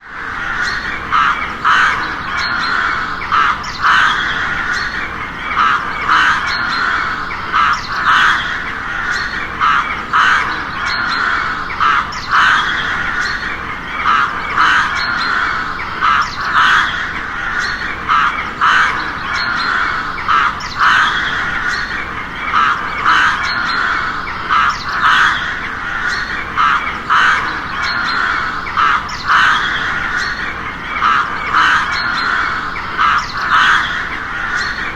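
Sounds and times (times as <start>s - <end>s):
crows cawing: 0.0s - 34.9s.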